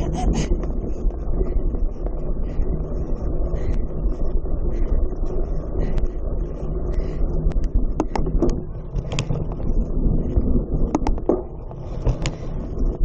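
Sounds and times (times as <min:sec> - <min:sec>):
sharp clicks and rattles: 0:00.0 - 0:13.0
wind buffeting microphone: 0:00.0 - 0:13.0.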